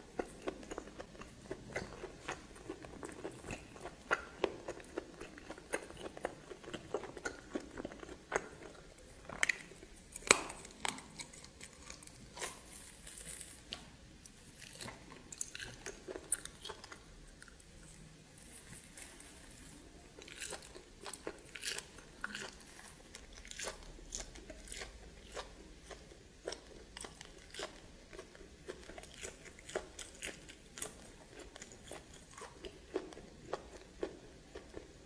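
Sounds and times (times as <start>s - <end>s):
person chewing and crunching: 0.0s - 35.0s.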